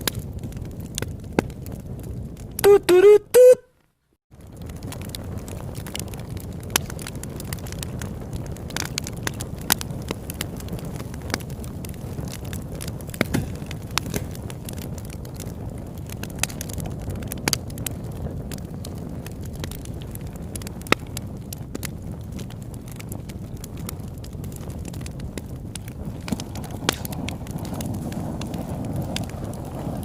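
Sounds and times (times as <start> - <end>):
campfire flames rushing: 0.0 - 2.7, 4.3 - 30.0
wood crackling and popping: 0.0 - 30.0.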